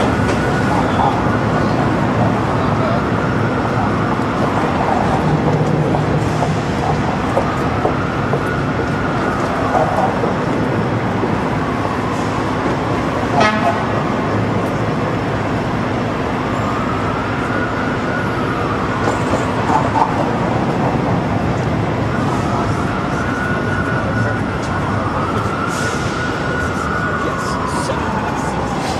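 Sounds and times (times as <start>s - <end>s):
city traffic noise: 0.0s - 28.9s
distant siren wailing: 0.0s - 28.9s.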